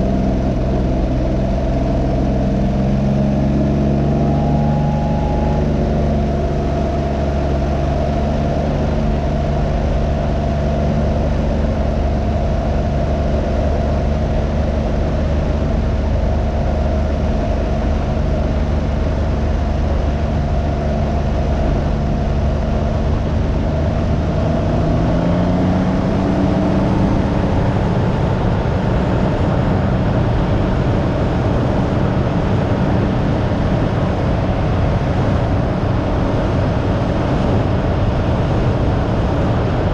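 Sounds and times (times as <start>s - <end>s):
engine running: 0.0s - 39.9s
wind noise: 0.0s - 39.9s.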